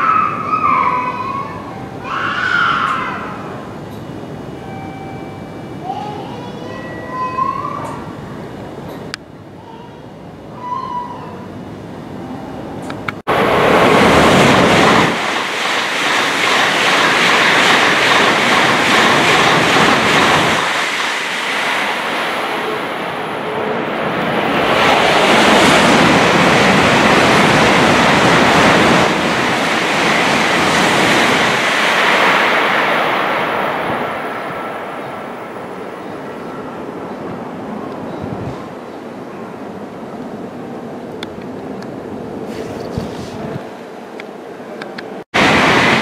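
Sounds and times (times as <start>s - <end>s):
trains passing at speed: 0.0s - 46.0s.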